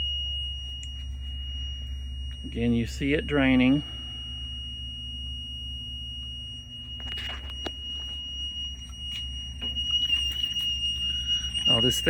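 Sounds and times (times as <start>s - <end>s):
high-pitched electronic alarm tone: 0.0s - 12.0s
sump pump humming: 0.0s - 12.0s.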